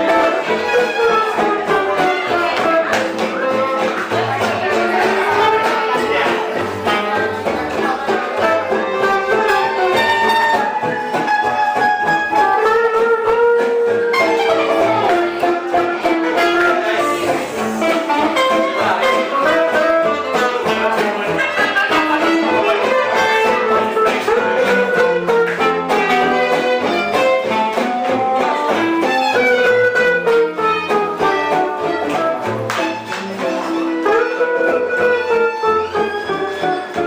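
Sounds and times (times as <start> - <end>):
live band playing gypsy-style music: 0.0 - 37.0
strummed guitars: 0.0 - 37.0.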